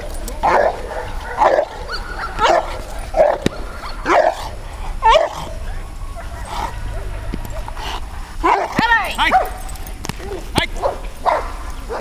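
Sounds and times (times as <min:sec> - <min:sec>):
dog barking: 0:00.4 - 0:12.0.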